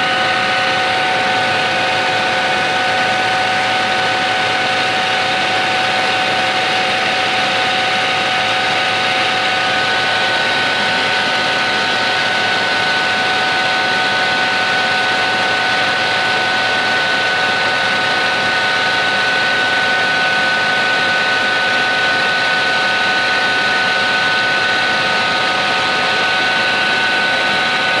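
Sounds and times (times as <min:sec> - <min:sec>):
helicopter rotor and engine noise: 0:00.0 - 0:28.0
high turbine whine: 0:00.0 - 0:28.0.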